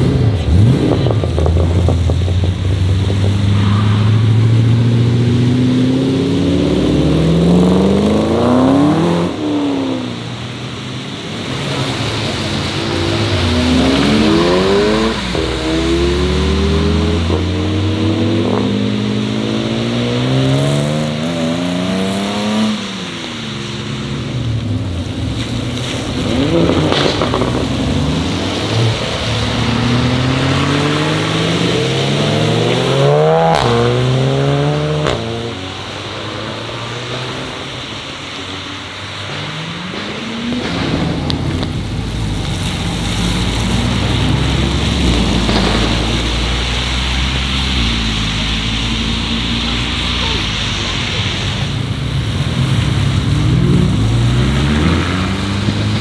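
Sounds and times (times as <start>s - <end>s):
cars accelerating: 0.0s - 56.0s
tyres hissing on wet road: 0.0s - 56.0s.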